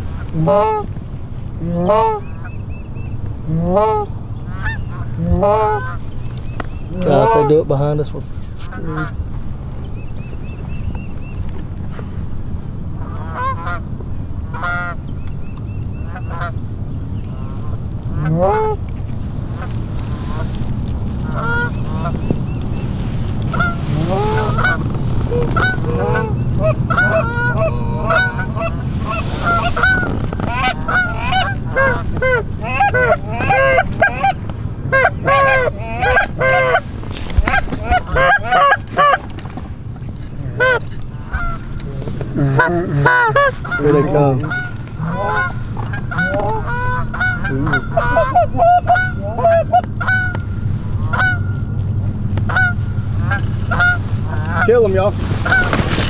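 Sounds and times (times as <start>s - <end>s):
geese honking: 0.0s - 56.0s
steady low rumble: 0.0s - 56.0s.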